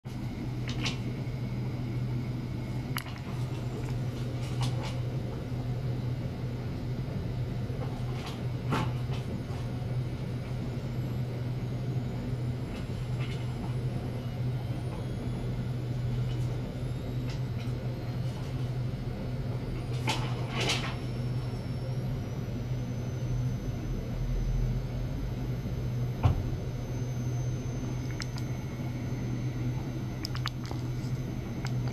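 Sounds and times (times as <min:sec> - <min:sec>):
steady low hum: 0:00.1 - 0:31.9.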